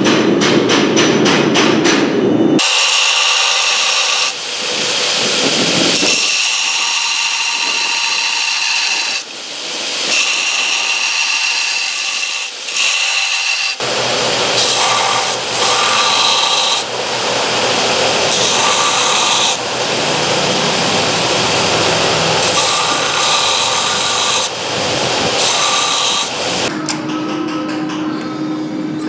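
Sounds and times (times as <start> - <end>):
belt grinder grinding with whine: 2.6 - 26.7.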